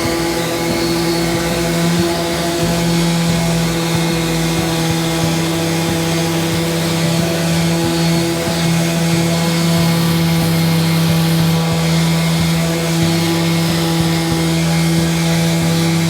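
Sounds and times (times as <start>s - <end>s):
power tool motor running: 0.0s - 16.0s.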